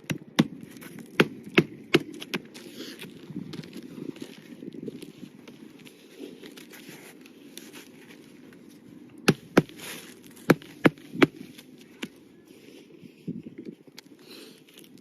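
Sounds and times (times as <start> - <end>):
shingles rustling and scraping: 0.5 - 12.9.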